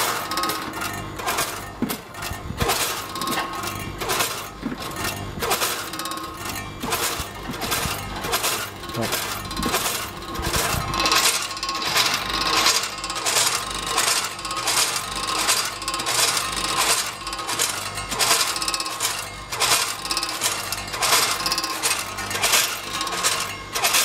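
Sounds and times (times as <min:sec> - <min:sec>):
metallic clatter of hopper gates: 0:00.0 - 0:24.0
steady machine hum: 0:00.0 - 0:24.0.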